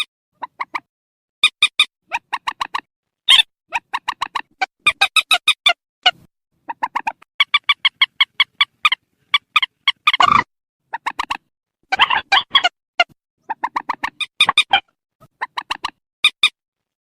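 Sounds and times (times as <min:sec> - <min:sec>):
swamphen harsh clucking calls: 0:01.6 - 0:16.5.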